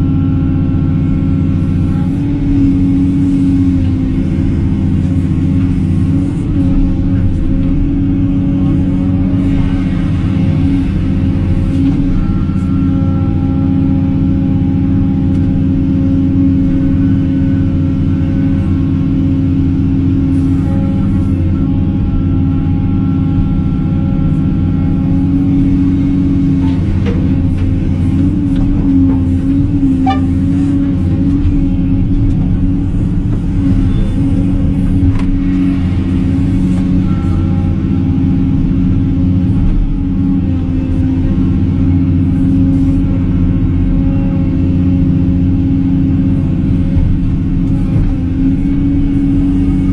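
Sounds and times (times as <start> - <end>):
excavator diesel engine: 0.0 - 49.9
faint whining tones: 0.0 - 49.9.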